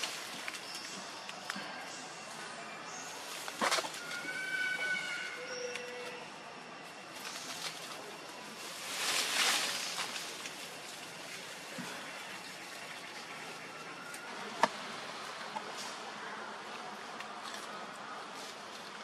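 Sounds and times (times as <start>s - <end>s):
rustling of dry leaves: 0.0s - 19.0s.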